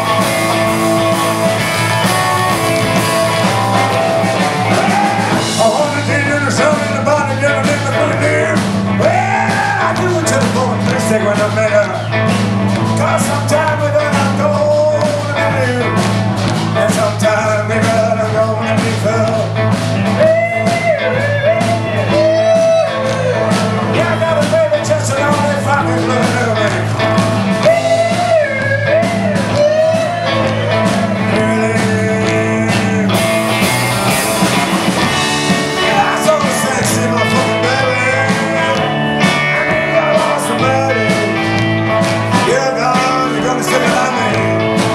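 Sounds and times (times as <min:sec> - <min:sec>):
person singing: 0:00.0 - 0:27.0, 0:27.6 - 0:44.9
rockabilly band playing: 0:00.0 - 0:44.9.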